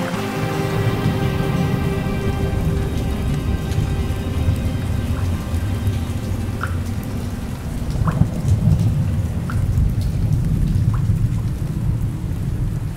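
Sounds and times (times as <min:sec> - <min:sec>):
water drops plinking: 0:00.0 - 0:11.1
rain falling: 0:00.0 - 0:12.9
deep rumble of thunder: 0:01.0 - 0:12.9.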